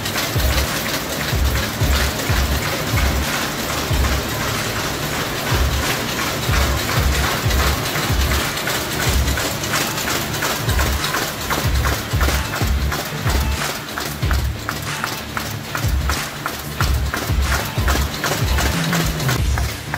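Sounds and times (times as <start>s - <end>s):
machine clatter and clicking: 0.0s - 19.9s.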